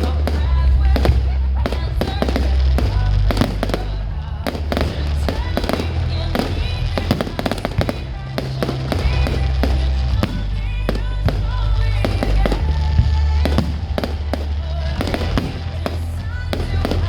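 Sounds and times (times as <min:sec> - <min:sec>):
fireworks bangs and crackles: 0:00.0 - 0:17.0
music with heavy bass: 0:00.0 - 0:17.0.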